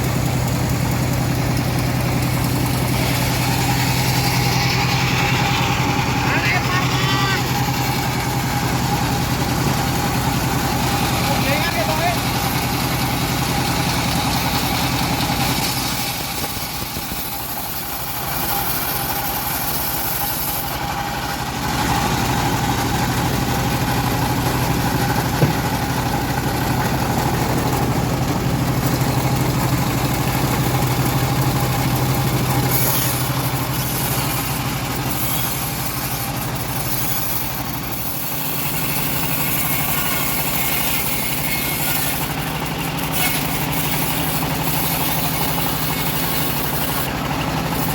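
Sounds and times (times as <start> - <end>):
bandsaw sawmill running: 0.0 - 47.9.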